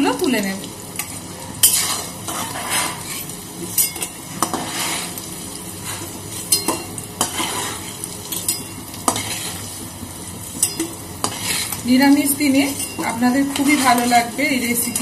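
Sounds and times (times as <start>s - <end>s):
food sizzling in oil: 0.0s - 15.0s
metal spatula scraping pan: 1.0s - 5.2s, 5.8s - 9.8s, 10.5s - 15.0s.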